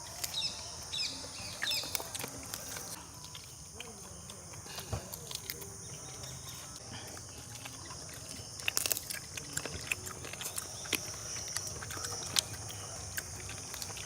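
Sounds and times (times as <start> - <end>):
insects buzzing: 0.0 - 14.0
people crunching fried chicken: 0.0 - 14.0.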